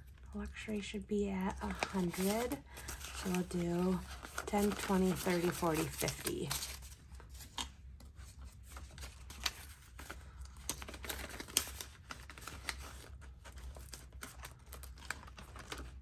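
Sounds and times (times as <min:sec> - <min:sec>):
plastic sleeves crinkling: 0:00.0 - 0:16.0
banknotes rustling: 0:01.4 - 0:16.0.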